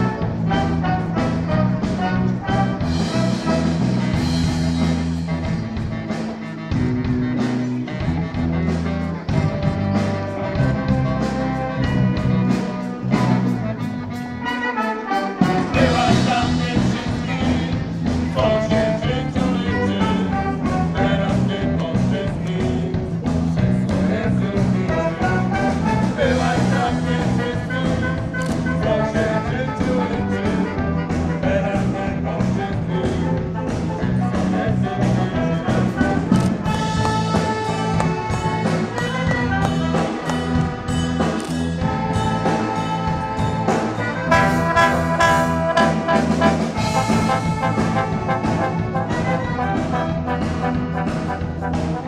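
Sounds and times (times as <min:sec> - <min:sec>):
wind band playing: 0:00.0 - 0:23.2, 0:24.0 - 0:52.0.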